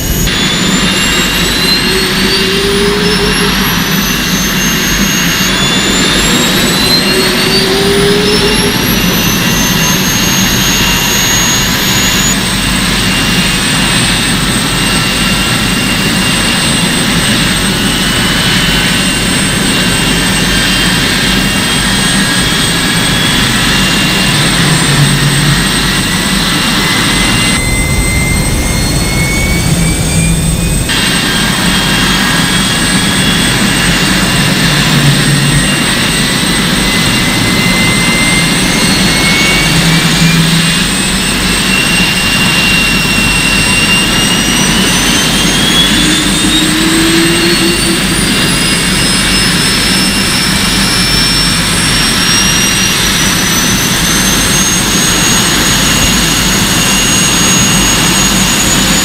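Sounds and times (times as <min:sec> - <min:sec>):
jet engine roar: 0:00.0 - 0:59.0
jet engine whine: 0:00.0 - 0:59.0.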